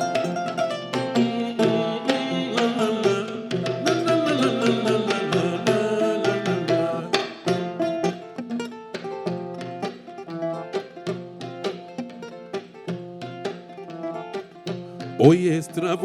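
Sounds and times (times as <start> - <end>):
kora plucked notes: 0.0 - 16.0.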